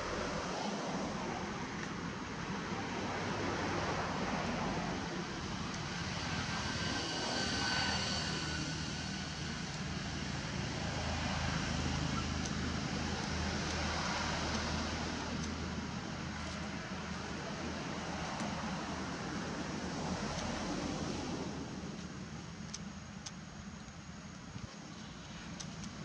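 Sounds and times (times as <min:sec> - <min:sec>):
faint high whine: 0:00.0 - 0:26.0
low engine drone: 0:00.0 - 0:26.0
outdoor noise: 0:00.0 - 0:26.0.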